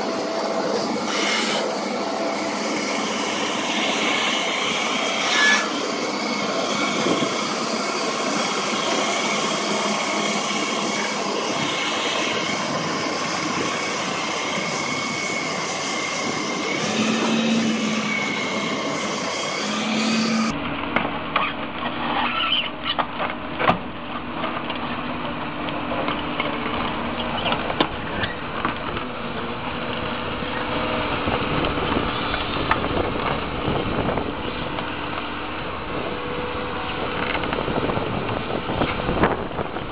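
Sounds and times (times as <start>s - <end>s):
excavator engine and hydraulics: 0.0s - 39.9s
excavator track noise: 0.0s - 39.9s.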